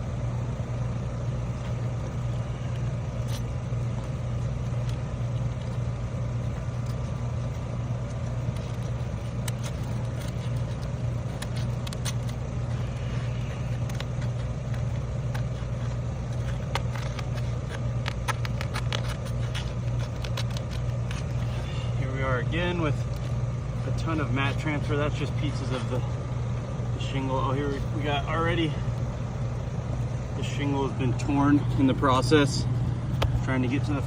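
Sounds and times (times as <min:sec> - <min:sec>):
low engine-like hum: 0:00.0 - 0:34.0.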